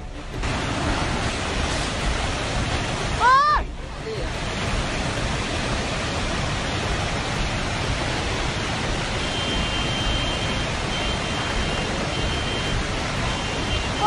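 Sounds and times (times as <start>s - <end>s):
rushing water roar: 0.0s - 14.0s.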